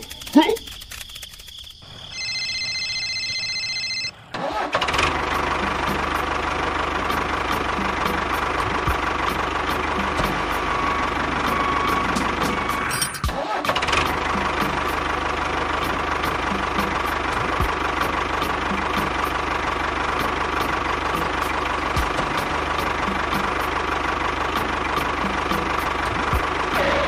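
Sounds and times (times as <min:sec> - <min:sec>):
small engine chugging: 0:00.0 - 0:27.0.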